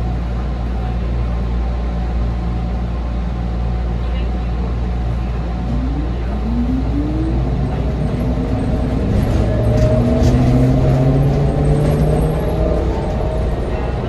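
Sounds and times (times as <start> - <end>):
low road rumble: 0.0 - 14.0.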